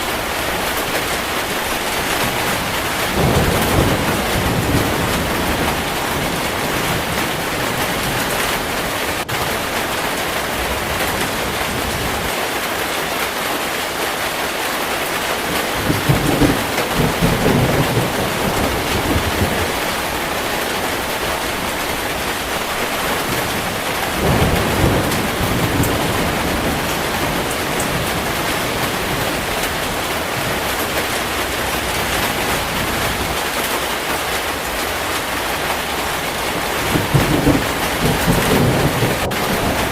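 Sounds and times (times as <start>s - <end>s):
thunder rumbling: 0.0s - 12.3s, 15.1s - 39.9s
heavy rain pouring: 0.0s - 39.9s.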